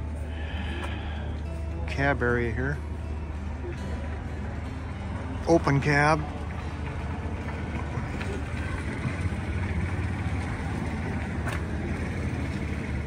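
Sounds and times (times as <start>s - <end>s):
low engine rumble: 0.0s - 13.0s
outdoor background noise: 0.0s - 13.0s.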